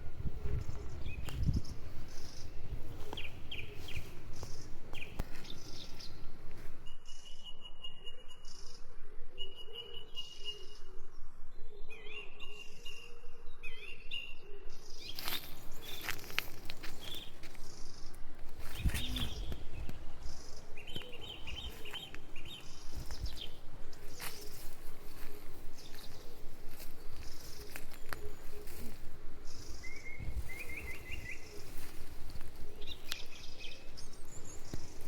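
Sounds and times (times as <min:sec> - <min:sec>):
birds chirping: 0:00.0 - 0:07.0, 0:13.8 - 0:35.0.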